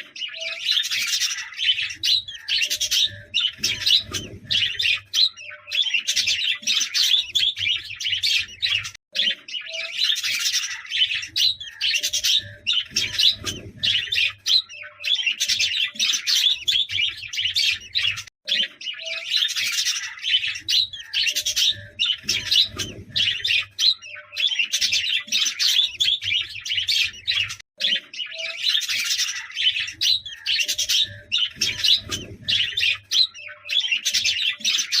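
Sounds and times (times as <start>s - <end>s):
budgerigars chattering: 0.0s - 35.0s.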